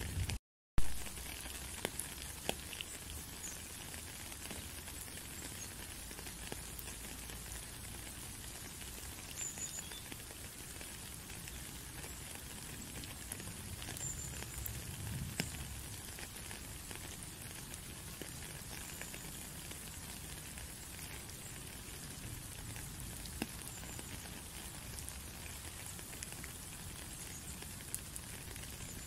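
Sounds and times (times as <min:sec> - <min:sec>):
rain falling on puddle and gravel: 0:00.0 - 0:29.0.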